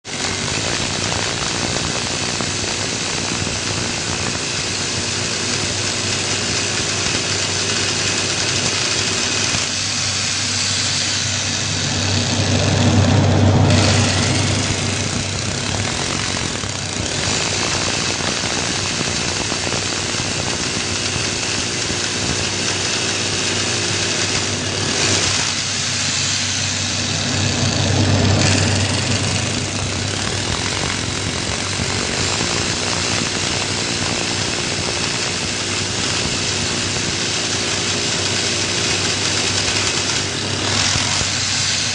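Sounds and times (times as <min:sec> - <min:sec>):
power drill running: 0:00.0 - 0:41.9.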